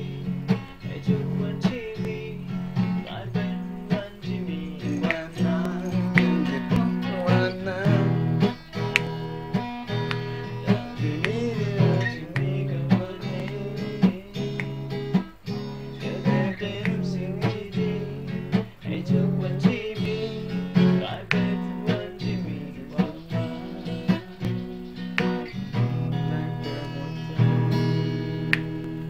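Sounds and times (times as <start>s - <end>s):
acoustic guitar strumming: 0.0s - 29.0s
person singing: 0.0s - 29.0s.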